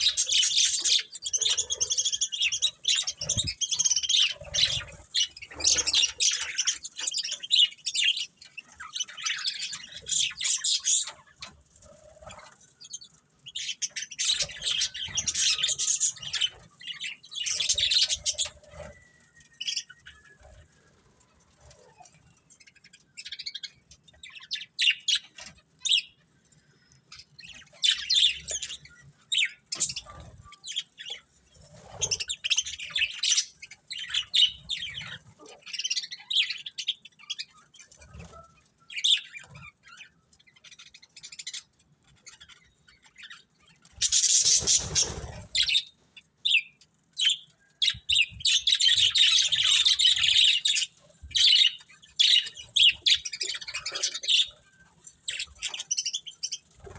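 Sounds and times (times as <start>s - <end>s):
budgerigars chirping and chattering: 0.0s - 56.9s.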